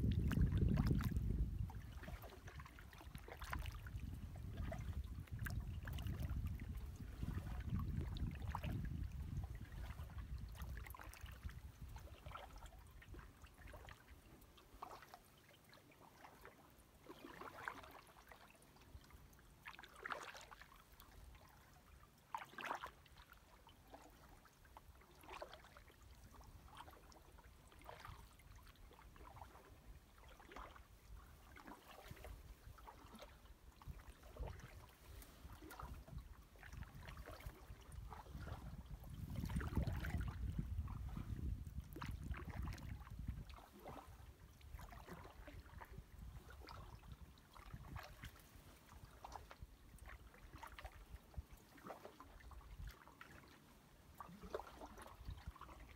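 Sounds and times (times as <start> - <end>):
paddle dipping into water: 0.0 - 55.9
water dripping from paddle: 0.0 - 55.9.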